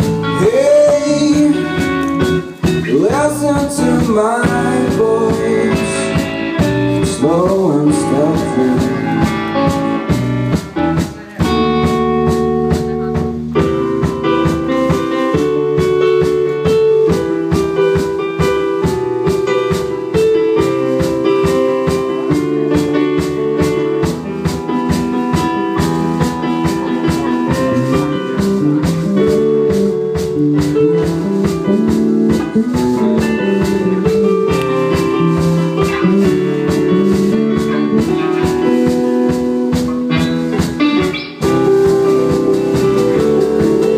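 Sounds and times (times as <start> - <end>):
drum kit beat: 0.0 - 43.9
electric guitar: 0.0 - 43.9.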